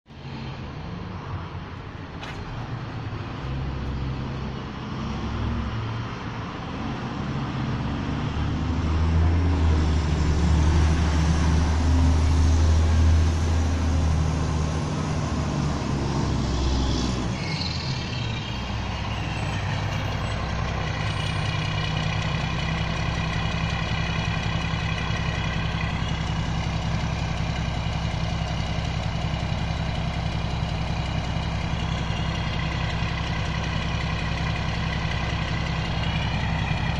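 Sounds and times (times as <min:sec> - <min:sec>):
garbage truck diesel engine: 0:00.1 - 0:36.9
high engine whine: 0:00.1 - 0:36.9.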